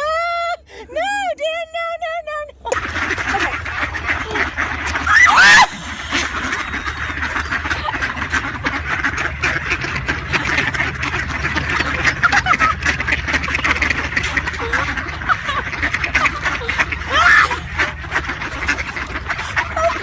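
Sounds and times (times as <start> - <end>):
ducks quacking: 2.6 - 20.0
loud high duck call: 2.8 - 20.0.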